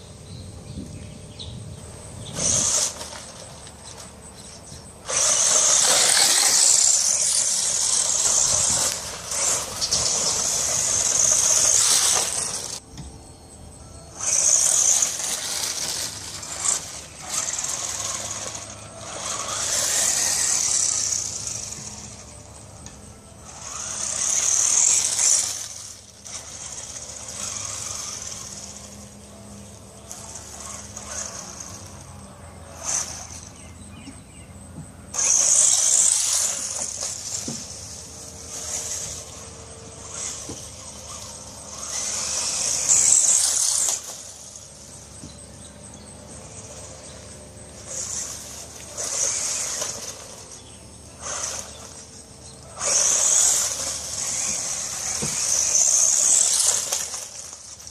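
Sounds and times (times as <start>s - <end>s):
rc truck motor and gears whining: 0.0s - 57.9s
tyres running over ground: 0.0s - 57.9s.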